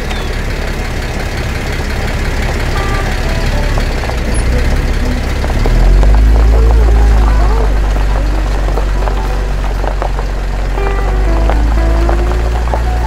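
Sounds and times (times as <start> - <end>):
engine running rough: 0.0 - 13.0.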